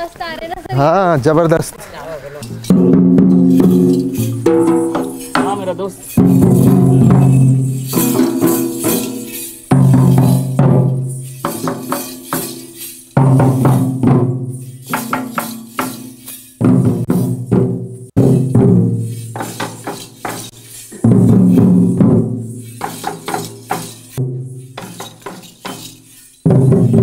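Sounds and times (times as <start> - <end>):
jingling bells: 2.4 - 27.0
wooden barrel drums beaten: 2.4 - 27.0.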